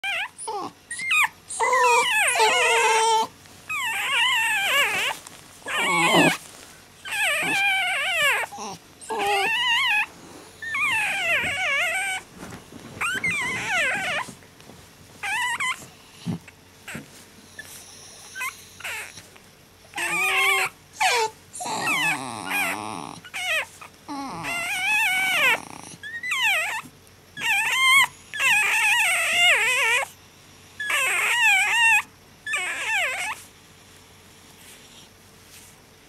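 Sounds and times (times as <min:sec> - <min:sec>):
dog whining: 0:00.0 - 0:14.4, 0:15.2 - 0:30.2, 0:30.8 - 0:33.5.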